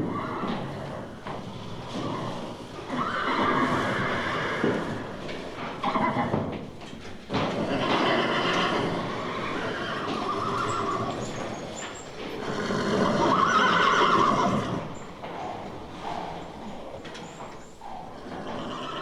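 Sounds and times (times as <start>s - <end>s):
horses neighing: 0.0s - 19.0s.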